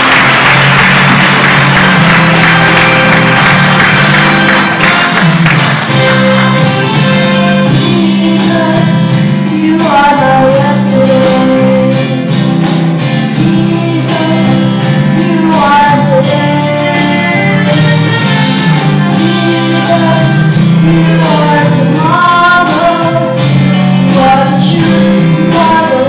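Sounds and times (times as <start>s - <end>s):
instrumental accompaniment: 0.0s - 26.0s.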